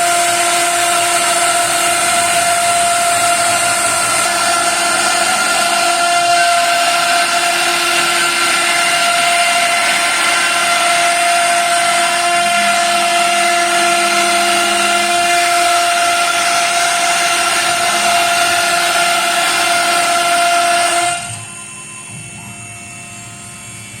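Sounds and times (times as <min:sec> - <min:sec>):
chipboard cutting noise: 0:00.0 - 0:21.5
router spindle whining: 0:00.0 - 0:24.0.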